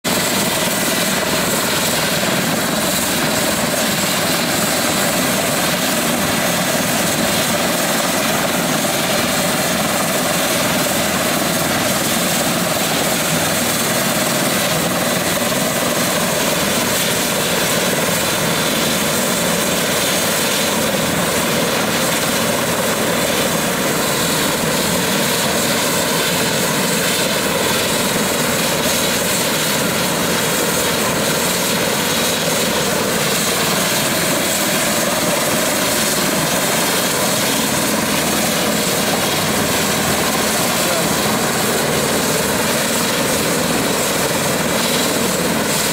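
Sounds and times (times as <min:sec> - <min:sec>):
helicopter rotor noise: 0:00.0 - 0:45.9
helicopter engines whining: 0:00.1 - 0:45.9.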